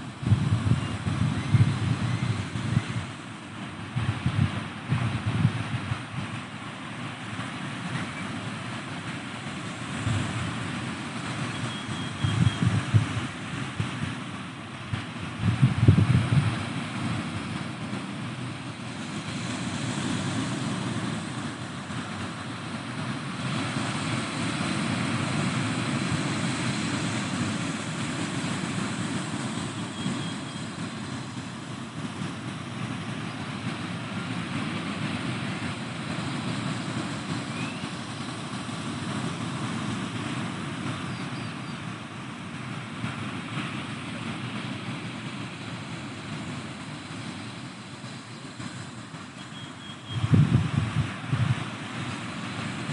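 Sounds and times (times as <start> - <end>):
ocean surf washing ashore: 0.0 - 52.9.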